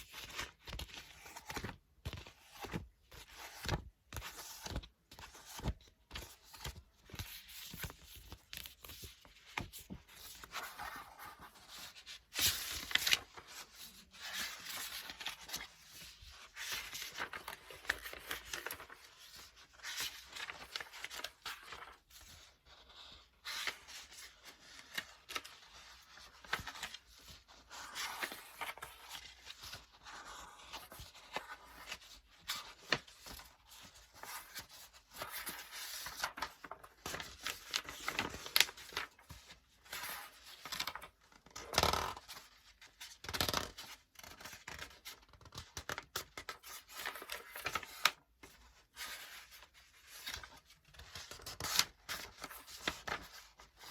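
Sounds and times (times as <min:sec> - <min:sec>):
book pages turning: 0:00.0 - 0:53.9.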